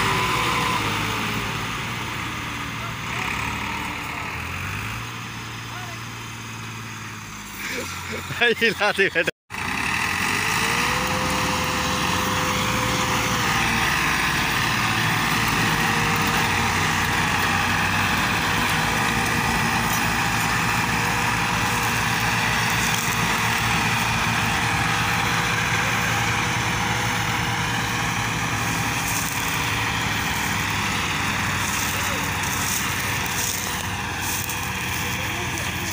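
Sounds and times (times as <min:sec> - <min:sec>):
diesel tractors running: 0:00.0 - 0:35.9.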